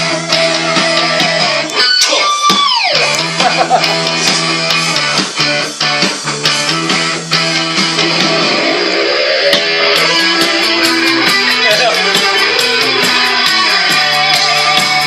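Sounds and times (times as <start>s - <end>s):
bass guitar: 0.0s - 15.0s
held guitar chords: 0.0s - 15.0s
lead electric guitar bending: 0.0s - 15.0s.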